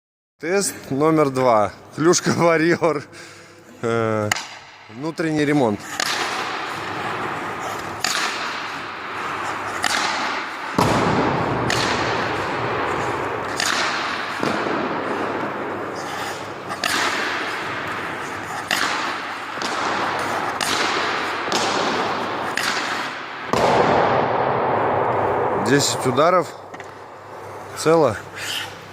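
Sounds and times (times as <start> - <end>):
hockey stick striking puck: 4.2 - 27.7.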